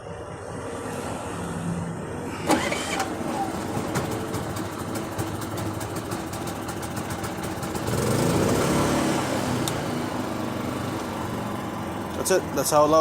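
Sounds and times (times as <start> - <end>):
generator running: 2.3 - 13.0.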